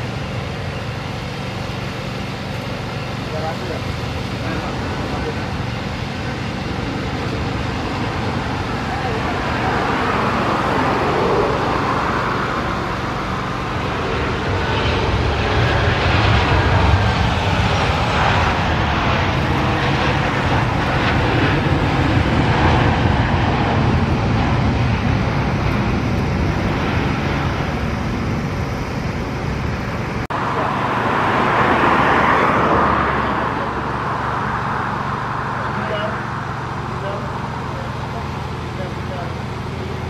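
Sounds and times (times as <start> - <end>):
jet engines rumbling: 0.0 - 40.0.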